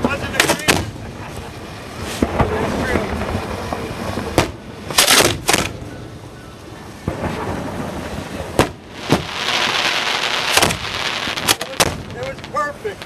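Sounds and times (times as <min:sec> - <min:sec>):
fireworks booming: 0:00.0 - 0:13.0
fireworks crackling hiss: 0:00.0 - 0:13.0.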